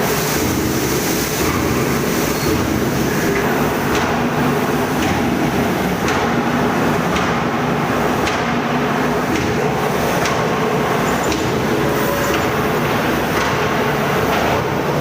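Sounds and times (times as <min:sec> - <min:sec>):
workshop machinery rumbling: 0:00.0 - 0:15.0.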